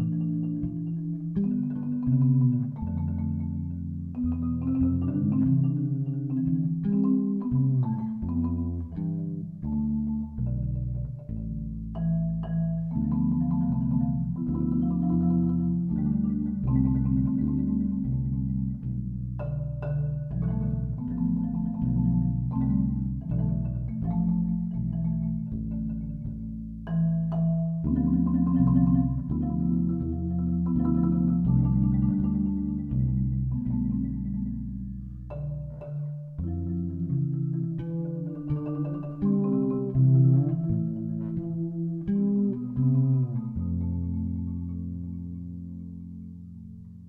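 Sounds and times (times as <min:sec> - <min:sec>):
fretless electric bass: 0:00.0 - 0:47.0
marimba playing: 0:00.0 - 0:47.0.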